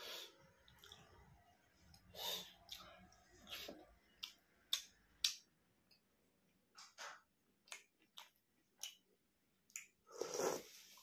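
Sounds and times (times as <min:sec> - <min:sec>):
person chewing with wet smacks: 0:00.5 - 0:06.2, 0:07.3 - 0:11.0.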